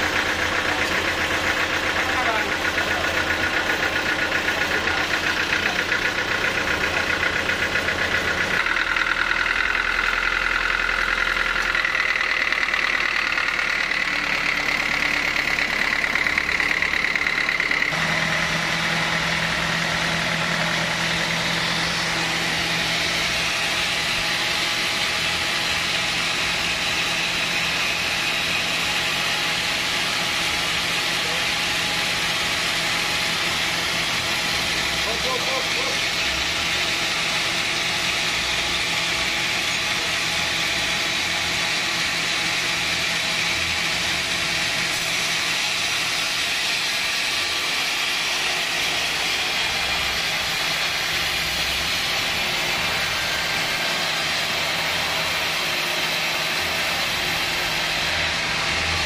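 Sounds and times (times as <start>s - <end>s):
sawmill engine running steadily: 0.0s - 59.0s.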